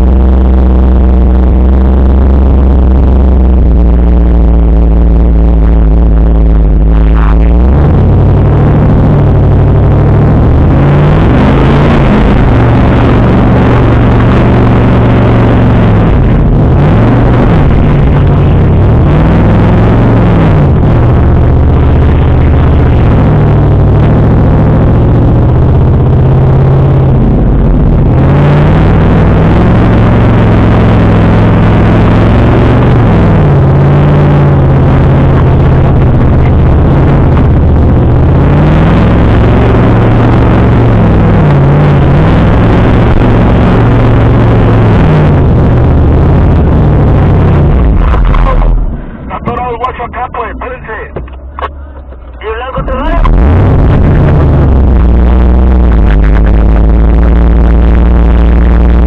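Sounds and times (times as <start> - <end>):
engine revving under load: 0.0 - 59.0.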